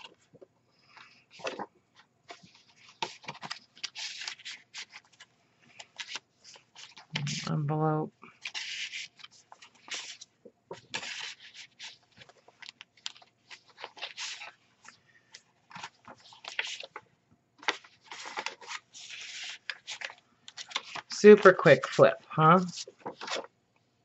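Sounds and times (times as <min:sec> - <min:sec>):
paper rustling and crinkling: 0:00.0 - 0:07.5, 0:08.2 - 0:17.0, 0:17.6 - 0:23.5.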